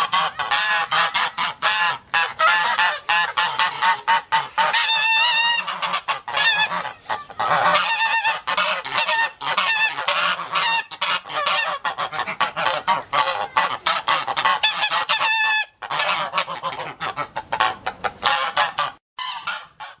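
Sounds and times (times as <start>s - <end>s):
chorus of honking animal calls: 0.0s - 20.0s.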